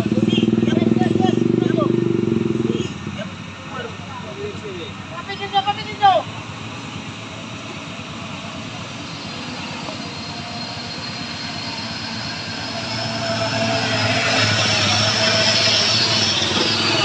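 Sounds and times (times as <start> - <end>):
diesel truck engine passing: 0.0 - 17.0.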